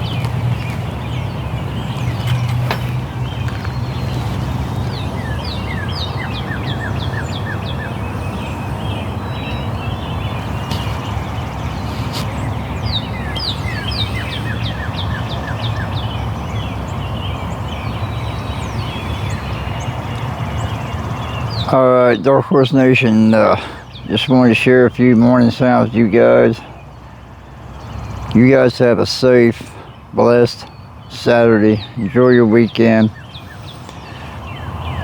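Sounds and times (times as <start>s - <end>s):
bird chirping: 0.0s - 35.0s.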